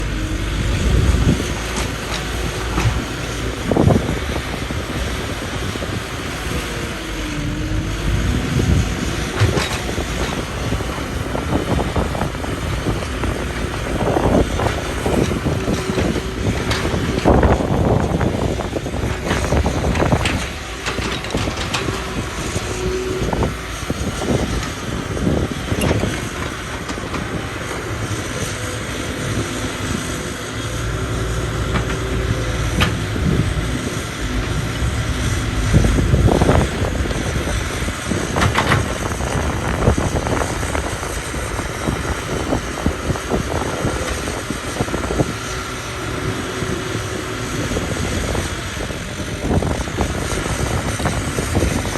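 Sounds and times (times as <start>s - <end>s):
excavator engine rumbling: 0.0s - 51.9s.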